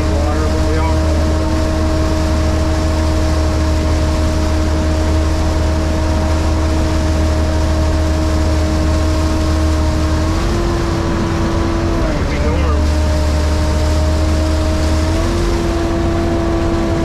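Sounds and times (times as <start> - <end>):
diesel engine droning with whine: 0.0 - 17.0
water churning at wheels: 0.0 - 17.0.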